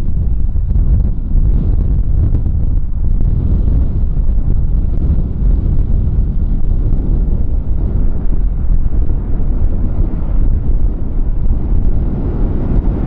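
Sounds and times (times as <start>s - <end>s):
gusty wind buffeting microphone: 0.0s - 13.0s.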